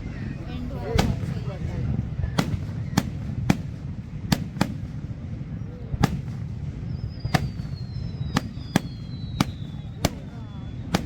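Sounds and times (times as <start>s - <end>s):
low rumble: 0.0s - 11.0s
fireworks bangs: 0.8s - 11.0s.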